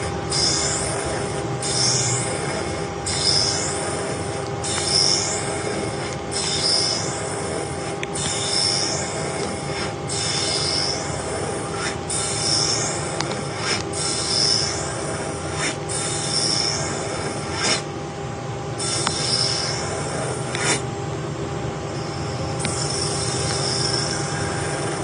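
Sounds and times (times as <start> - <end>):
lathe cutting metal squeal: 0.0 - 17.8, 18.8 - 20.8, 22.0 - 25.0
machine hum: 0.0 - 25.0.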